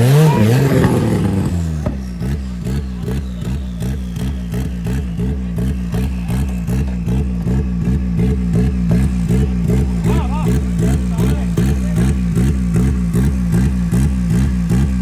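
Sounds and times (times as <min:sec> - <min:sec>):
pulsing off-road engine under load: 0:00.0 - 0:15.0.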